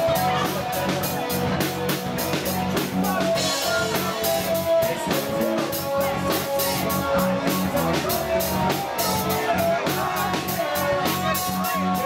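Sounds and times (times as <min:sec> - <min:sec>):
rock band playing: 0:00.0 - 0:12.0
steady drum beat: 0:00.0 - 0:12.0.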